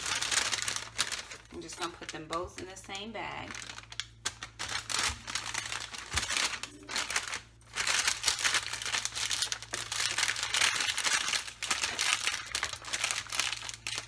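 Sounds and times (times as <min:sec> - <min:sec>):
paper bag crinkling: 0:00.0 - 0:14.0.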